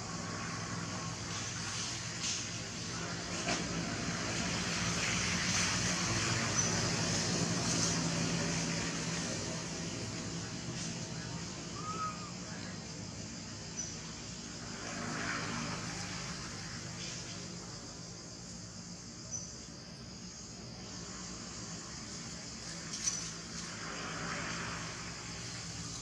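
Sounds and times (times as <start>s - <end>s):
high-pitched insect drone: 3.9s - 26.0s.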